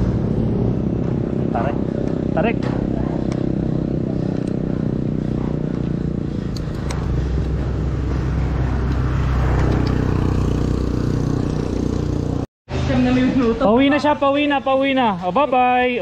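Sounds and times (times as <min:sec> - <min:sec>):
bicycle road rumble: 0:00.0 - 0:15.4
wind: 0:00.0 - 0:16.0.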